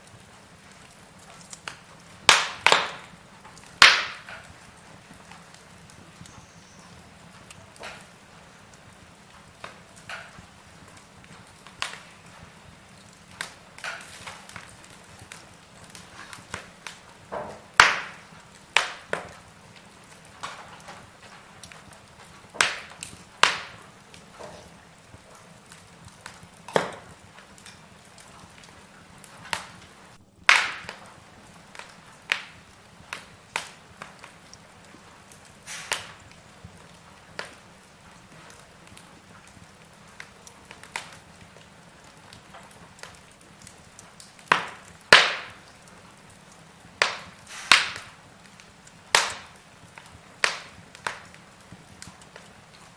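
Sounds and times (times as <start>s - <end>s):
faint fire hiss: 0.0s - 52.9s
fire crackling and popping: 0.0s - 52.9s.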